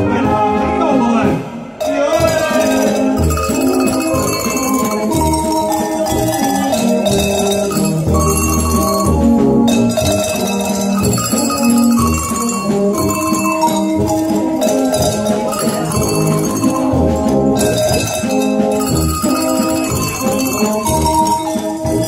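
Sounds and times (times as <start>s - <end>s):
brass band playing: 0.0s - 22.0s
hand bells ringing: 1.8s - 22.0s.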